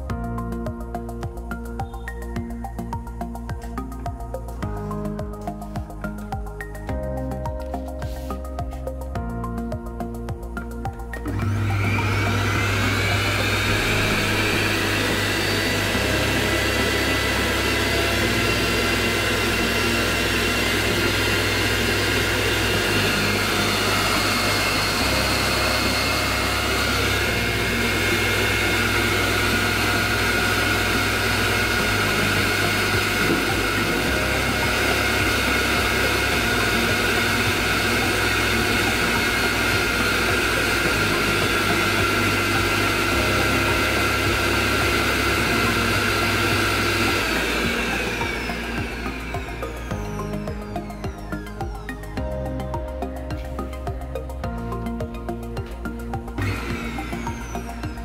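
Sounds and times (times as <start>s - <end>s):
mixer grinder motor whine: 0.0s - 58.0s.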